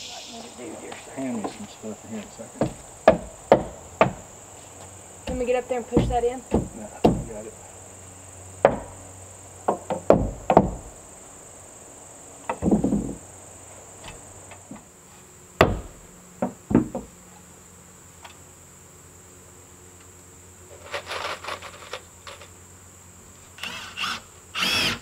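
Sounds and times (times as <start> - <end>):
high-pitched insect drone: 0.0 - 14.8, 17.0 - 25.0.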